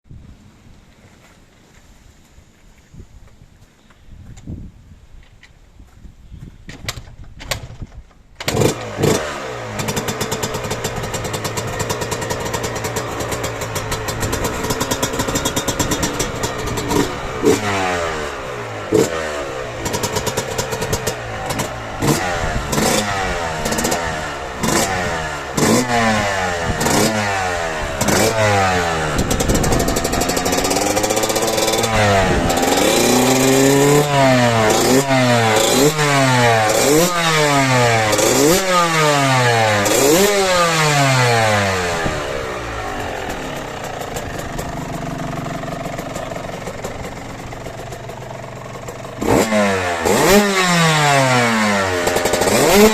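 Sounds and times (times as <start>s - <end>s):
motocross engine revving: 8.4s - 52.9s.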